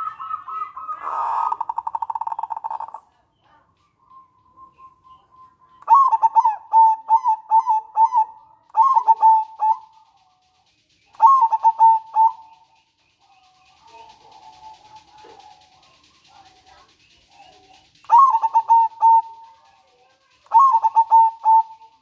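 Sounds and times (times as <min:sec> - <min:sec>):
dove cooing: 0:00.0 - 0:03.7, 0:04.7 - 0:10.2, 0:11.1 - 0:12.7, 0:13.4 - 0:22.0.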